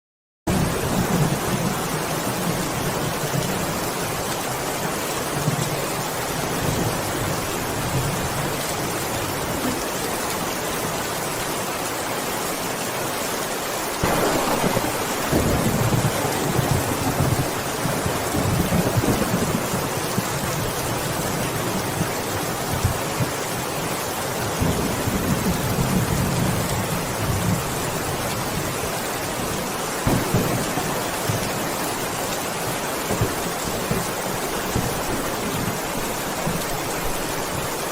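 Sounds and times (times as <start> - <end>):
heavy rain pouring: 0.5 - 37.9.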